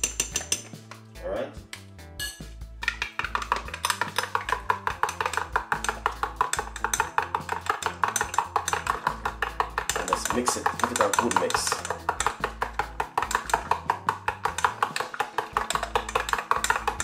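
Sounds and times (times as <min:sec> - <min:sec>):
music with quick percussive beat: 0:00.0 - 0:17.0.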